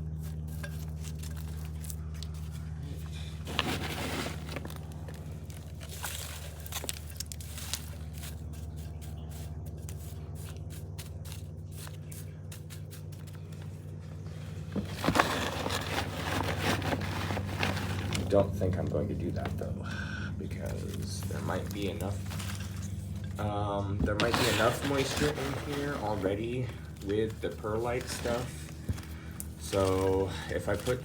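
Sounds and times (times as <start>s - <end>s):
potting mix scraping and crackling: 0.0s - 31.0s
steady low hum: 0.0s - 31.0s.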